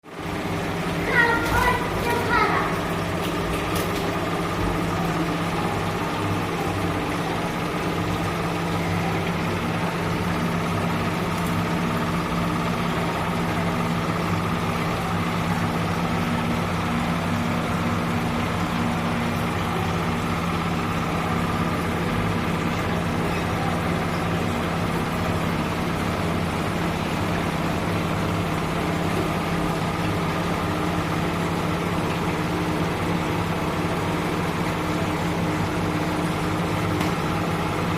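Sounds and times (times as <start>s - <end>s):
low mechanical hum: 0.0s - 37.9s.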